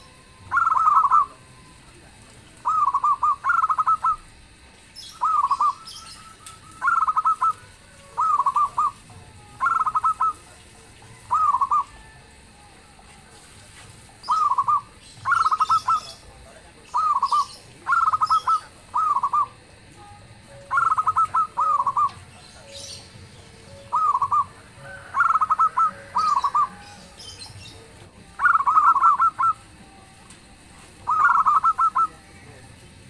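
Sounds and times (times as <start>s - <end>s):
dove cooing: 0.0s - 32.6s.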